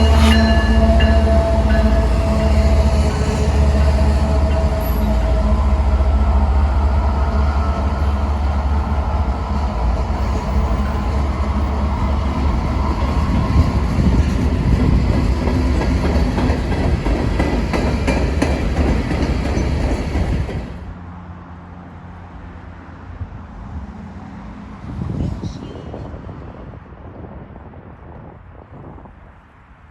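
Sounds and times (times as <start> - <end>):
freight train rumbling: 0.0 - 29.7.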